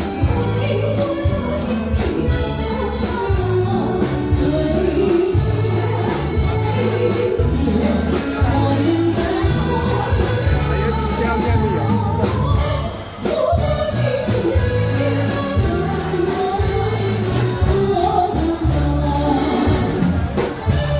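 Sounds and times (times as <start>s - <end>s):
pop music with singing: 0.0s - 20.9s.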